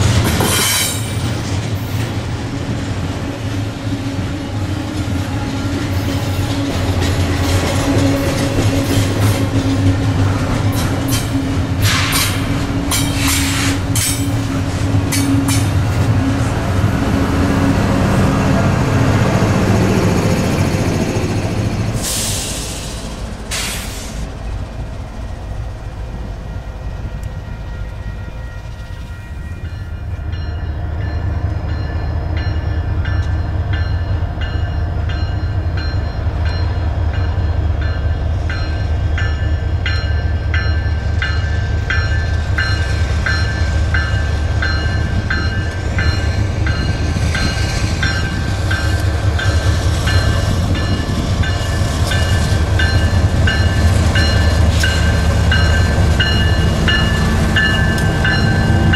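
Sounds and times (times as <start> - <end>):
freight train rumbling: 0.0 - 58.9.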